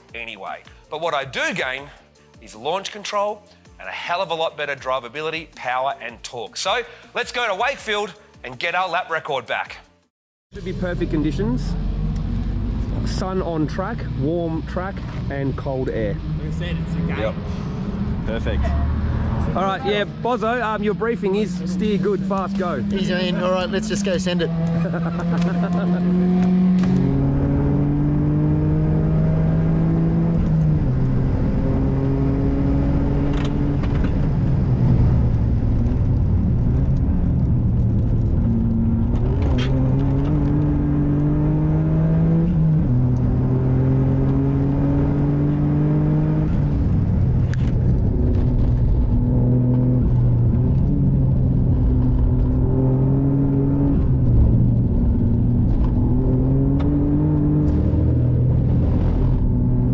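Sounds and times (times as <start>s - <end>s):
car engine revving inside cabin: 11.2s - 59.9s.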